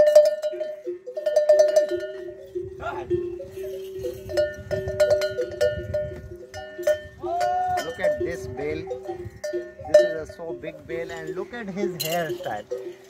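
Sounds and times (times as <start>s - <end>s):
metal bell clanking and ringing: 0.0s - 13.0s.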